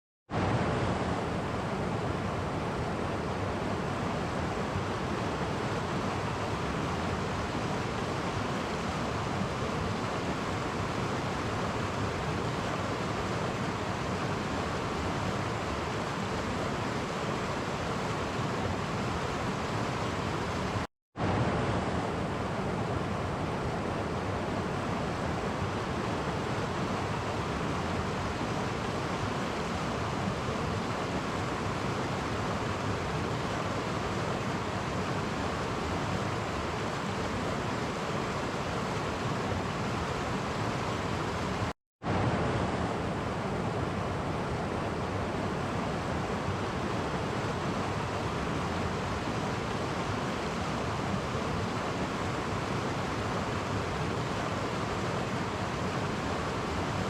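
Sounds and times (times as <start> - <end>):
stream rushing over cascades: 0.3 - 57.0.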